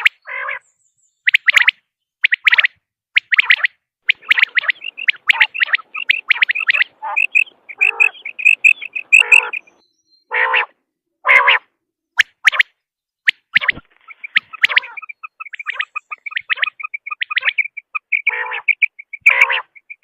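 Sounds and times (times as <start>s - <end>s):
quail chirping: 0.0s - 0.6s, 1.2s - 10.7s, 12.2s - 12.7s, 13.3s - 20.0s
rough quail calls: 0.0s - 0.6s, 1.3s - 20.0s.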